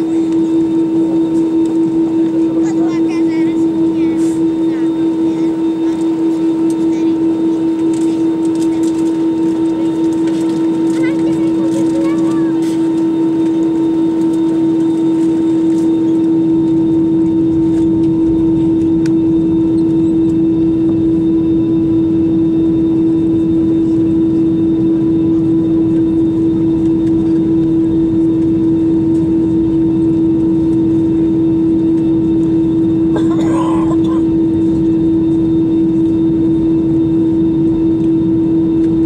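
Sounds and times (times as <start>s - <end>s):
airplane cabin engine drone: 0.0s - 39.0s.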